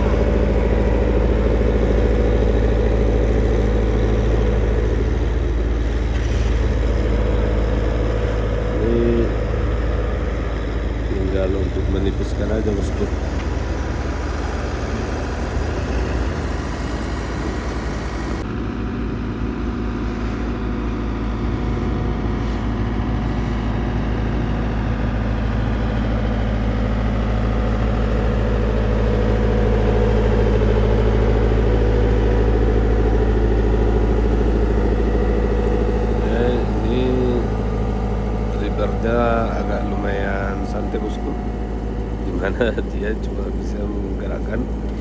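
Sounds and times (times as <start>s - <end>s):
heavy machinery engine running: 0.0s - 45.0s.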